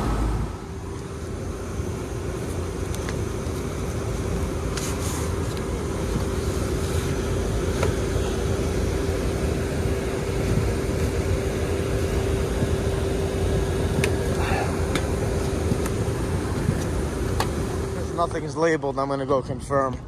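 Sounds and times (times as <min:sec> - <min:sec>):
air conditioning units droning: 0:00.0 - 0:20.0
constant hum tone: 0:00.0 - 0:20.0.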